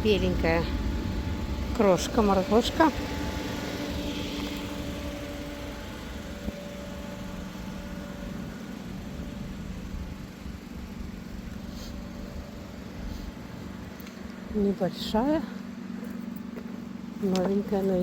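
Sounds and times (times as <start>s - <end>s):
car engine idling: 0.0s - 18.0s
faint steady hum: 0.0s - 18.0s.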